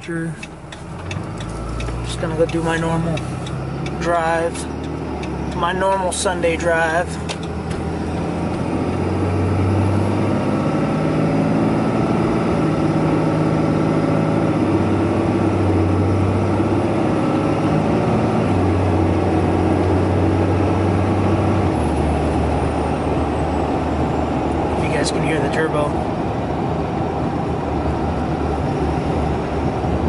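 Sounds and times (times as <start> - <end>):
diesel engine droning: 0.0 - 30.0
road noise: 0.0 - 30.0.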